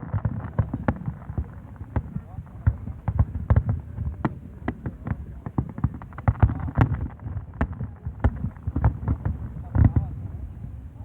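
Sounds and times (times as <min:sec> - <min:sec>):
fireworks bangs and booms: 0:00.0 - 0:11.0.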